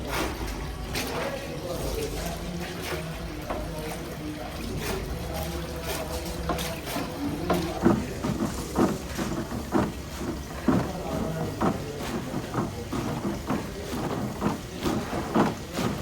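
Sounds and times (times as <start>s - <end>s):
low machine hum: 1.6s - 16.0s.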